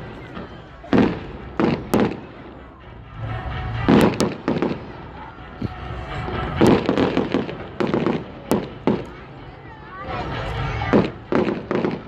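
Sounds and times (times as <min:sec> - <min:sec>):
fireworks bangs: 0:00.0 - 0:09.4, 0:10.2 - 0:12.0
fireworks crackling: 0:00.0 - 0:12.0.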